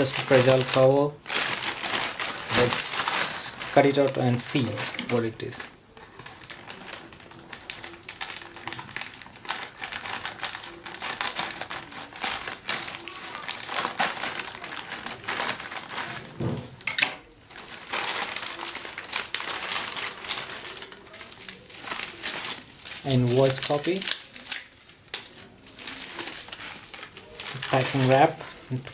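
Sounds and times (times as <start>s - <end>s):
packaging rustling and crackling: 0.0s - 28.9s.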